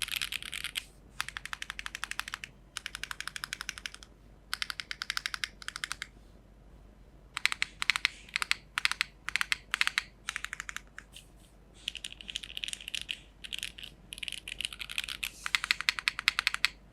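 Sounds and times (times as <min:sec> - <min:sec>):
mechanical keyboard typing: 0:00.0 - 0:06.1, 0:07.4 - 0:16.8.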